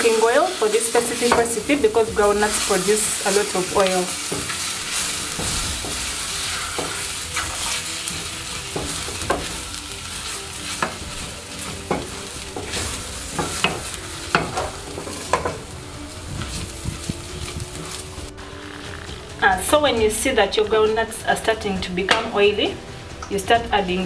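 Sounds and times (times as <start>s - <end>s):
steady sizzle: 0.0s - 24.0s
wooden spoon scraping a pot: 0.1s - 19.4s.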